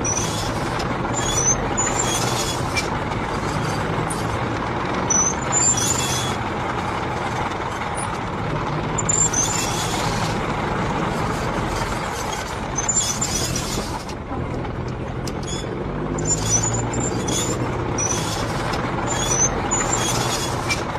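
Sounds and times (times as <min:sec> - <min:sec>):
tank engine drone: 0:00.0 - 0:20.9
tank tracks clanking and squealing: 0:00.0 - 0:20.9.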